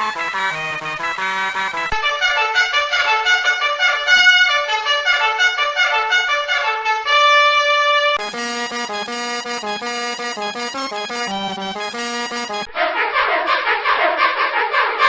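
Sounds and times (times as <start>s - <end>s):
brassy trumpet-like melody: 0.0s - 12.7s.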